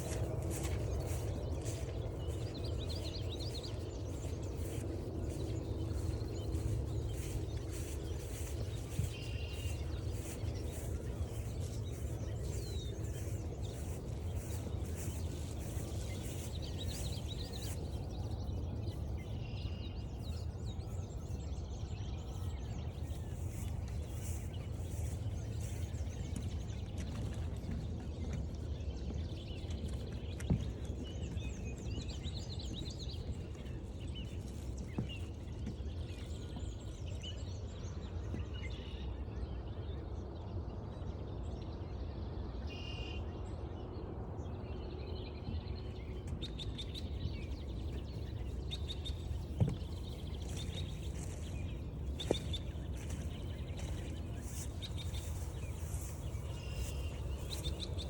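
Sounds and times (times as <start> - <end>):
songbirds chirping and singing: 0.0 - 37.9, 44.5 - 58.0
steady low rumble: 0.0 - 38.0, 43.6 - 58.0.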